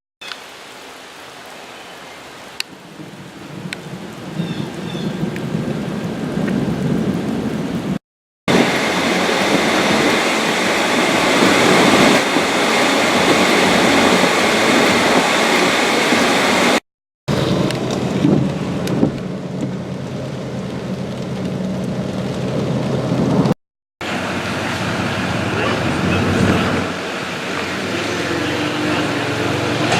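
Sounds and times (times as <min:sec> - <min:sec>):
heavy rain pouring: 0:00.2 - 0:29.9.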